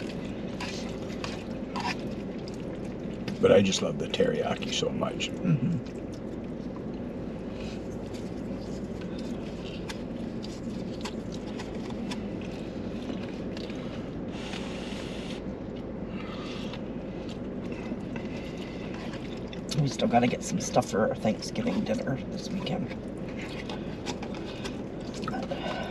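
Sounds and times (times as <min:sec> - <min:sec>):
fan blowing: 0:00.0 - 0:25.9.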